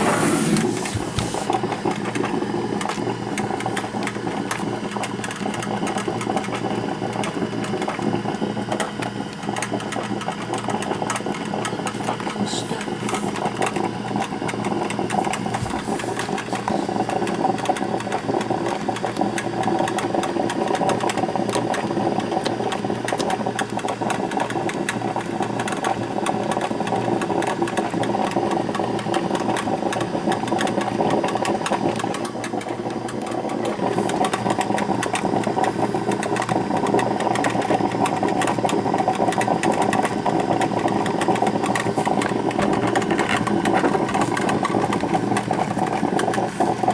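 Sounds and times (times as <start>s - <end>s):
coffee maker gurgling: 0.0s - 46.9s.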